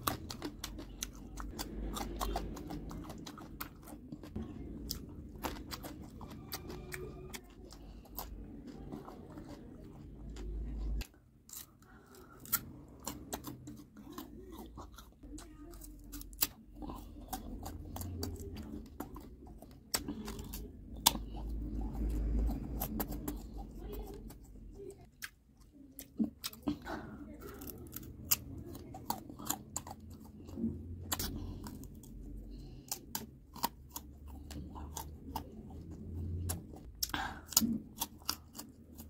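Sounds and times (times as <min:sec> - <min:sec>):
crunching fruit bites: 0:00.0 - 0:24.5, 0:25.1 - 0:39.0
wet chewing mouth sounds: 0:00.0 - 0:39.0.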